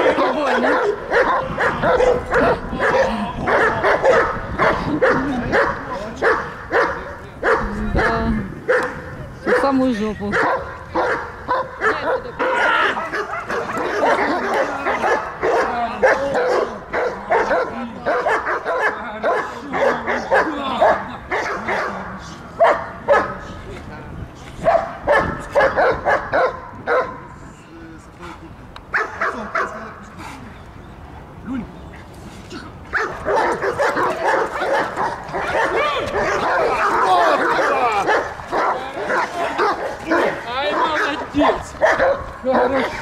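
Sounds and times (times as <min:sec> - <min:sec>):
dog barking and yelping: 0:00.0 - 0:09.7, 0:10.3 - 0:22.0, 0:24.6 - 0:27.2, 0:28.9 - 0:29.8, 0:32.9 - 0:43.0.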